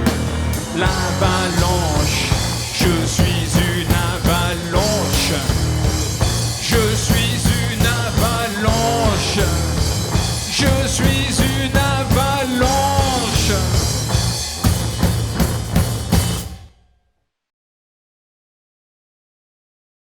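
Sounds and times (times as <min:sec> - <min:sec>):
bass: 0:00.0 - 0:16.7
drum beat: 0:00.0 - 0:16.7.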